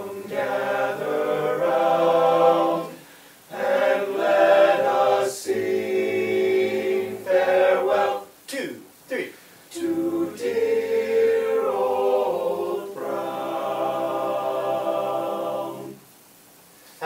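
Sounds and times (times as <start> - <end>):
male group singing in harmony: 0.0 - 8.3, 9.7 - 16.0.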